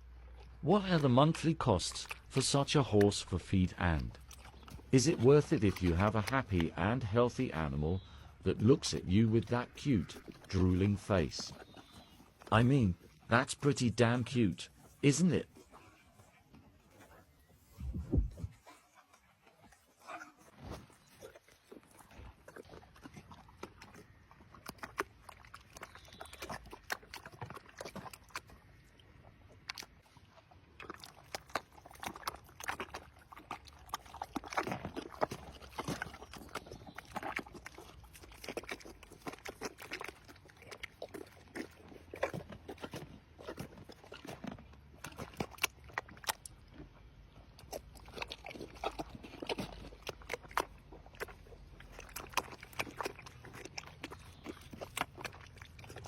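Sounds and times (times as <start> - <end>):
horse chewing feed: 0.0 - 56.0.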